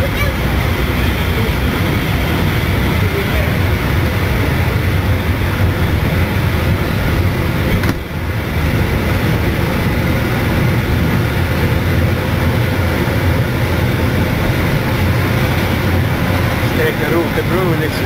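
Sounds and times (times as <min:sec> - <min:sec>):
steam train rumbling: 0:00.0 - 0:18.0.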